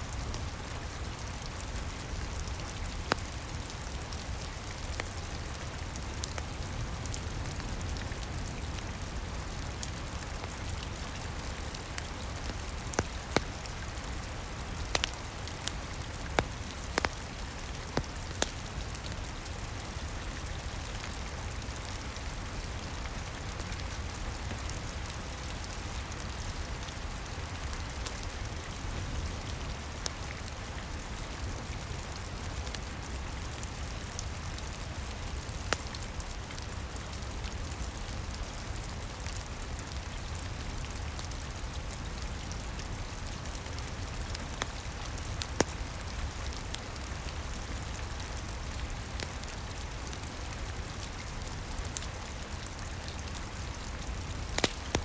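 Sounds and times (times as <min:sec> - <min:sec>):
rain falling on a roof: 0:00.0 - 0:55.0
wood fire crackling and popping: 0:00.1 - 0:55.0.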